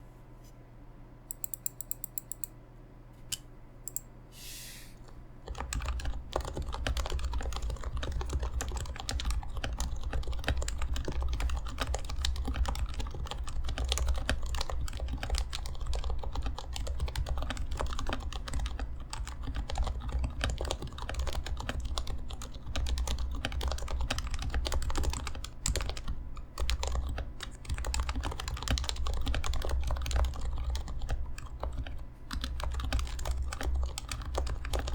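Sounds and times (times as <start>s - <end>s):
fast keyboard typing: 5.4s - 34.9s.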